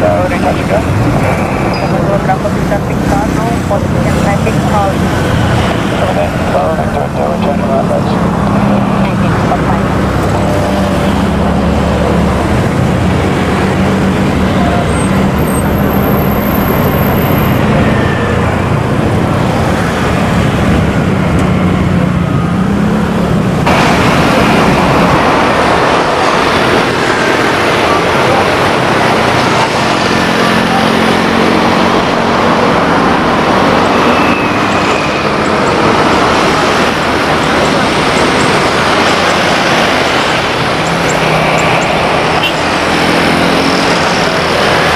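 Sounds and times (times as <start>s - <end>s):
engine droning and rumbling: 0.0s - 44.9s.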